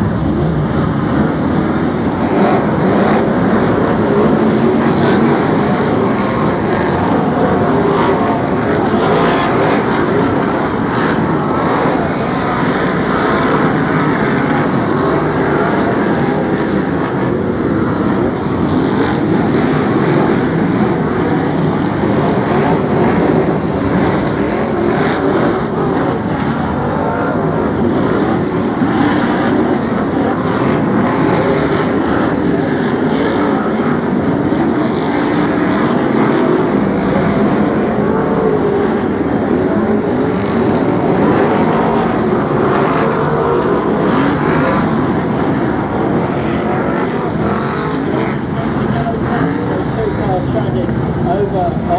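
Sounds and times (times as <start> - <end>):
racing car engines: 0.0 - 51.9.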